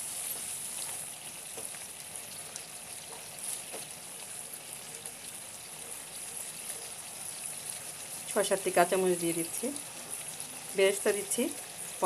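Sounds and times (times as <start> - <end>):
curry sizzling in a wok: 0.0 - 12.0.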